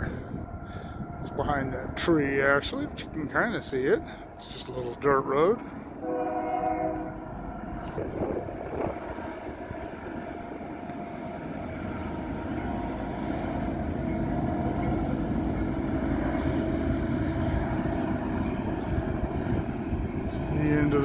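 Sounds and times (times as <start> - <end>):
freight train rumbling: 0.0 - 21.0.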